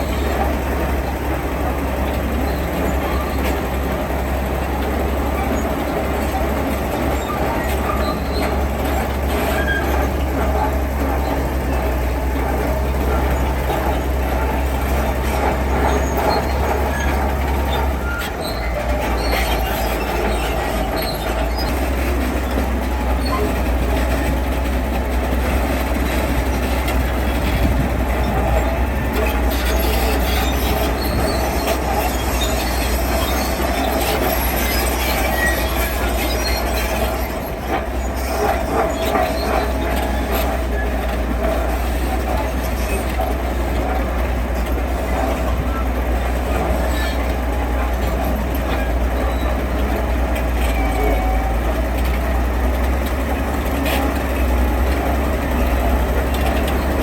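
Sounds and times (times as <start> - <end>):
diesel engine drone: 0.0 - 57.0
metallic squealing and clatter: 0.0 - 57.0.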